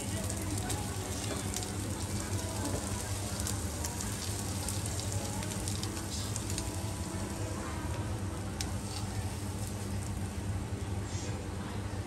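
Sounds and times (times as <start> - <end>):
batter sizzling in hot pan: 0.0 - 10.8.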